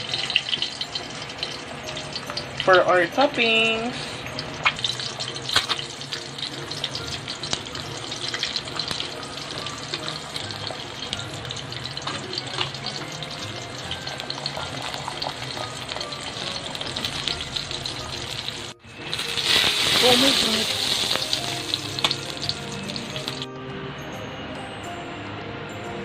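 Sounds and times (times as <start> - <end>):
oil sizzling in a pan: 0.0 - 23.5
faint background music: 0.0 - 26.0.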